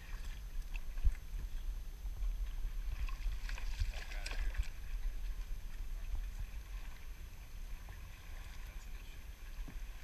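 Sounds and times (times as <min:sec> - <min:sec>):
faint water sounds: 0:00.0 - 0:10.0
wind rumble on microphone: 0:00.0 - 0:10.0.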